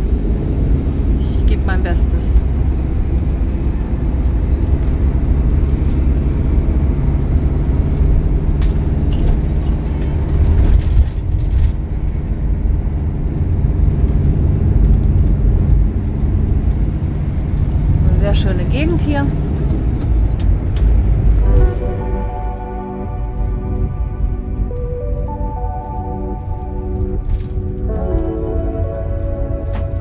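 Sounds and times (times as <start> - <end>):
diesel engine running: 0.0 - 30.0
road noise: 0.0 - 30.0.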